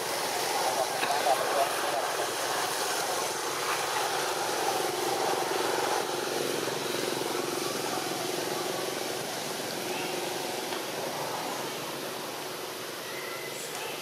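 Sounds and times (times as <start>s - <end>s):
low engine-like drone: 0.0s - 14.0s
steady hiss: 0.0s - 14.0s.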